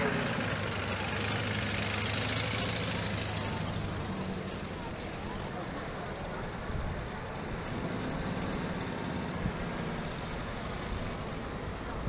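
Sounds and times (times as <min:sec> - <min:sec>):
military vehicle engines running: 0:00.0 - 0:12.0.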